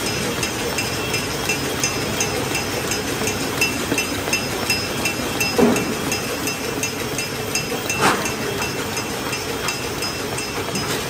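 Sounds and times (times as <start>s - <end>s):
machine clanks: 0.0s - 11.0s
machine humming: 0.0s - 11.0s
machine ticking: 0.0s - 11.0s.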